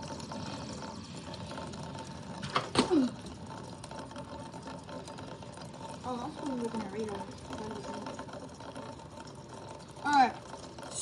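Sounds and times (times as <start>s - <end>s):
water pattering in rain gutter: 0.0s - 11.0s.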